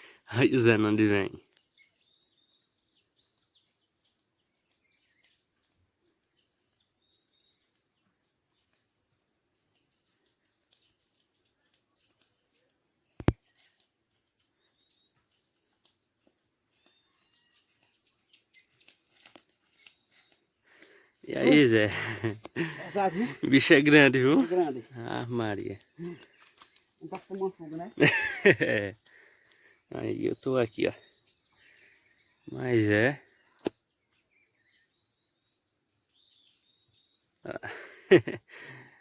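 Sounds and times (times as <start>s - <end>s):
insects droning: 0.0s - 39.0s.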